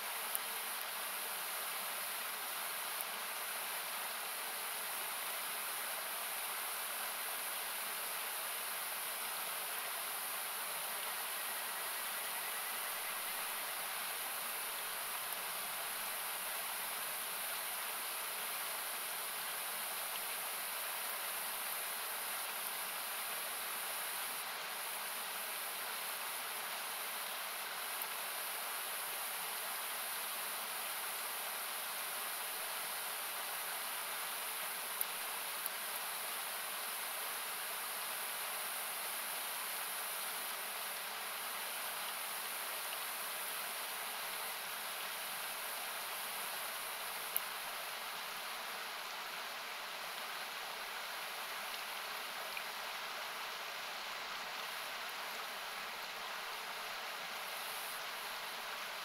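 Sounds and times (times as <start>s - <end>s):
faint campfire crackle: 0.0s - 59.0s.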